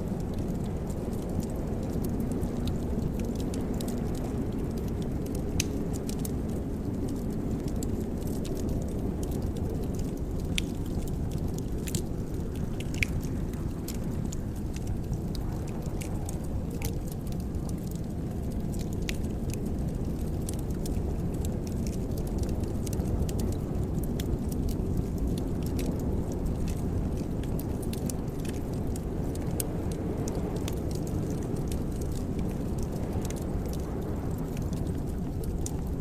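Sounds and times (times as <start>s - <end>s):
fire crackling and popping: 0.0s - 36.0s
low rush of flames: 0.0s - 36.0s.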